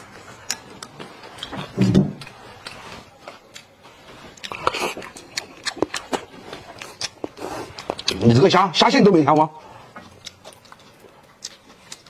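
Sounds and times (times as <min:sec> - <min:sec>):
person biting and chewing: 0:00.0 - 0:08.2, 0:10.0 - 0:12.0.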